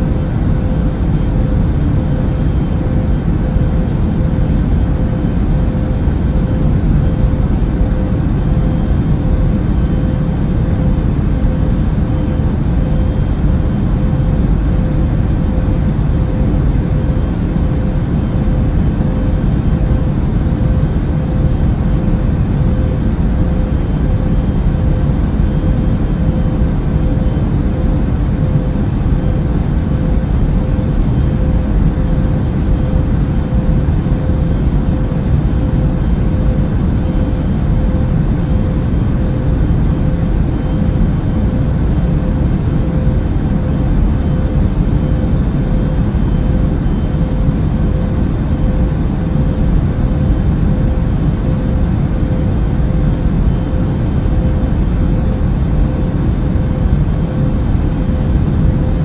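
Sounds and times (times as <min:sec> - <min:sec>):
airplane cabin rumble: 0:00.0 - 0:59.0
faint steady hum: 0:00.0 - 0:59.0.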